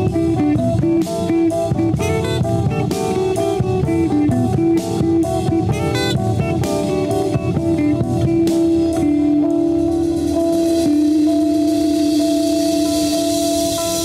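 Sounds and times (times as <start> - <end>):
electric guitar picking notes: 0.0 - 14.0
rock drums: 0.0 - 14.0.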